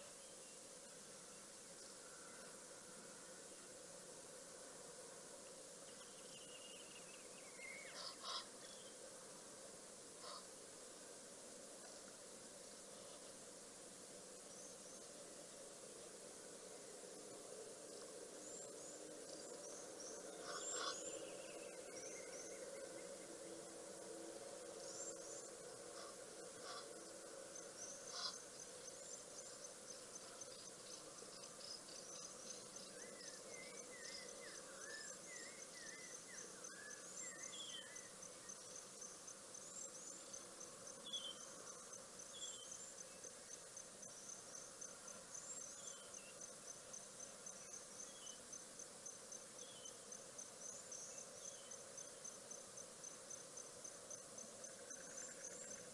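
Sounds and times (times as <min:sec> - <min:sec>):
cricket chirping: 0:00.0 - 0:55.9.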